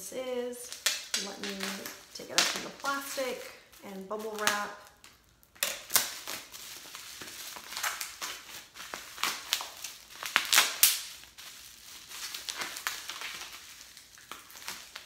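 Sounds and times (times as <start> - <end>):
plastic wrap crinkling: 0.3 - 15.0.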